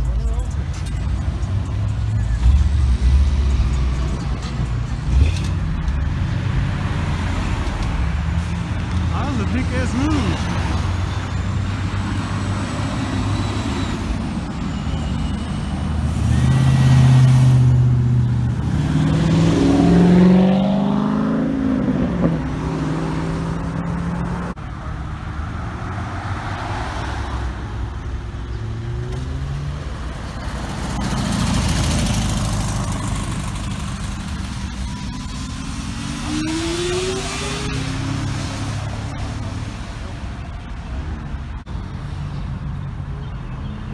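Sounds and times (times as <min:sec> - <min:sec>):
car engine accelerating hard: 0:00.0 - 0:41.8
cars driving past: 0:00.0 - 0:43.9.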